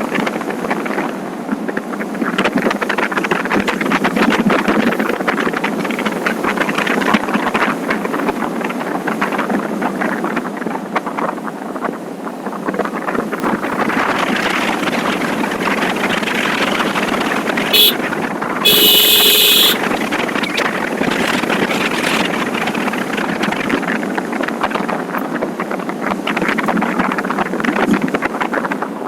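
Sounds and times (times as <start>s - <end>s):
motorcycle engine and road noise: 0.0s - 29.0s
wind rush over microphone: 0.0s - 29.0s.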